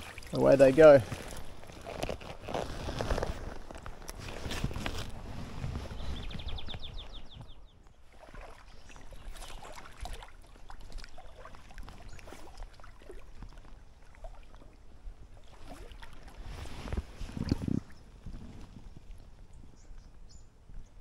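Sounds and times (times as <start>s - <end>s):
creek water lapping: 0.0s - 20.7s.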